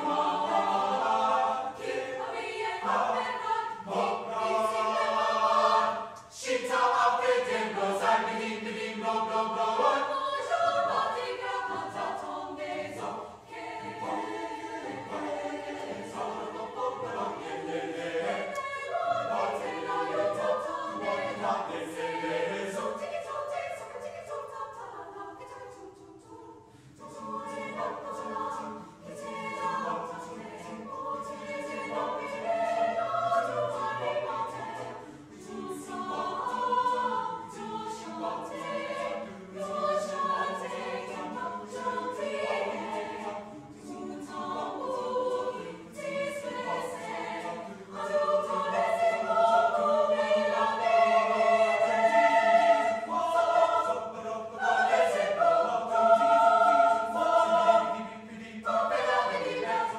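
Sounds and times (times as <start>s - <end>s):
mixed choir singing a cappella: 0.0s - 59.9s.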